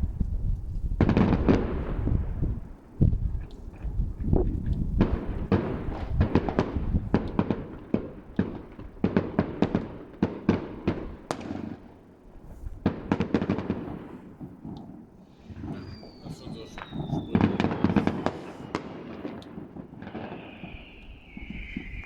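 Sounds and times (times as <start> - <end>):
distant fireworks bangs and pops: 0.0 - 22.0.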